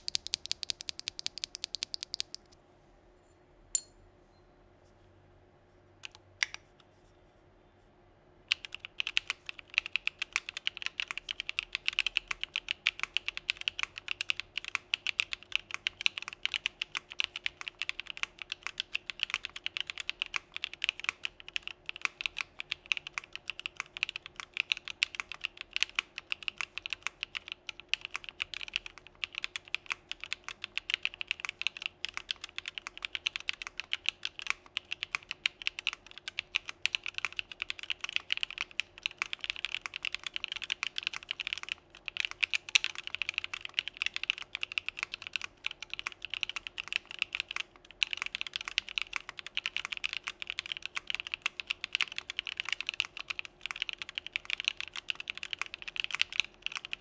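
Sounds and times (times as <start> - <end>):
mechanical keyboard typing: 0.0 - 2.6, 8.5 - 57.0.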